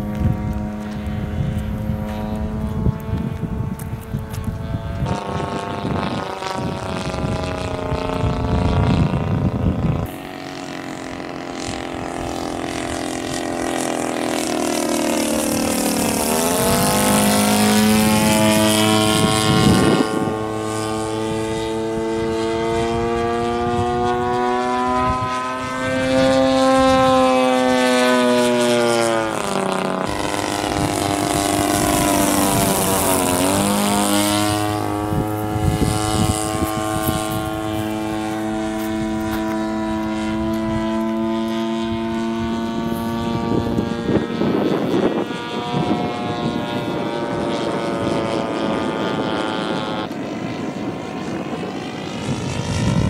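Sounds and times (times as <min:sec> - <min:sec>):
model airplane engine droning: 0:00.0 - 0:53.0.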